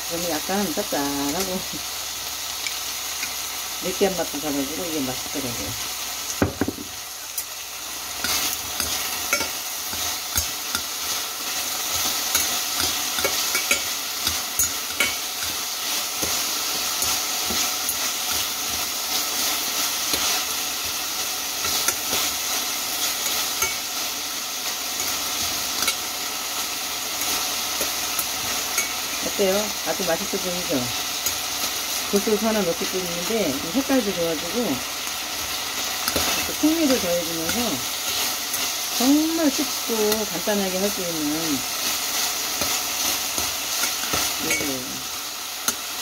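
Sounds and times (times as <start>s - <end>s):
meat and vegetables sizzling: 0.0s - 46.0s
tongs and spoon scraping pan: 7.3s - 29.4s, 30.0s - 44.8s.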